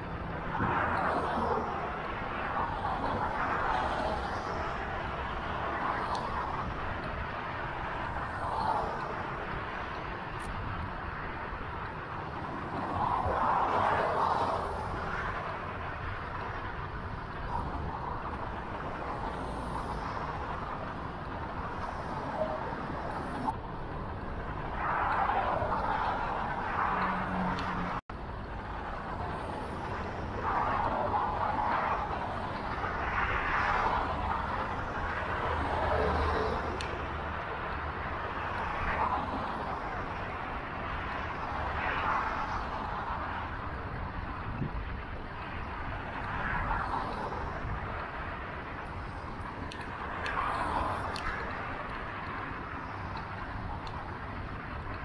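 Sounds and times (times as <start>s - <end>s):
city street traffic: 0.0s - 55.0s
vehicles passing: 0.0s - 55.0s.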